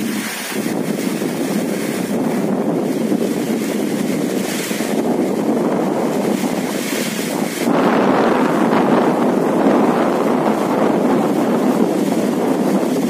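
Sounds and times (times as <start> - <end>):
rain on an umbrella: 0.0 - 13.0.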